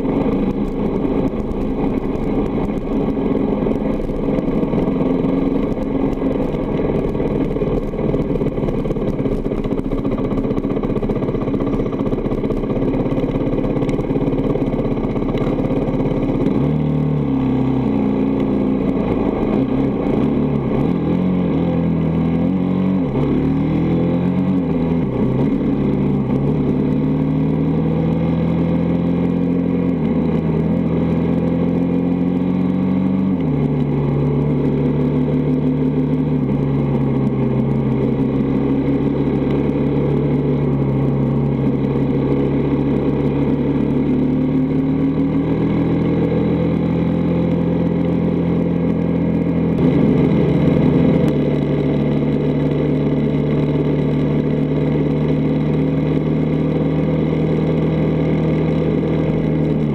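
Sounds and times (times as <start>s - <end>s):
dirt bike engine accelerating: 0.0s - 59.9s.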